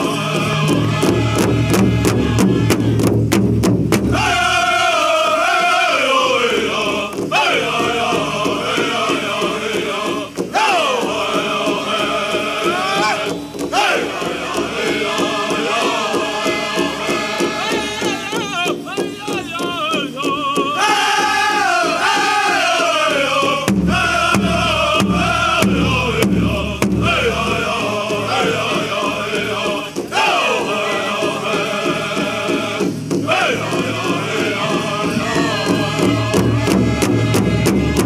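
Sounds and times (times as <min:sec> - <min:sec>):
male voices chanting: 0:00.0 - 0:03.0, 0:04.1 - 0:38.0
steady drumbeat on large drum: 0:00.0 - 0:38.0.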